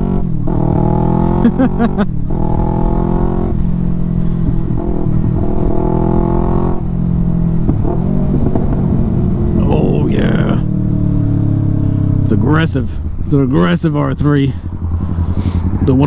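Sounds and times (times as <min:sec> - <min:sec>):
loud motorcycle engine riding: 0:00.0 - 0:16.0.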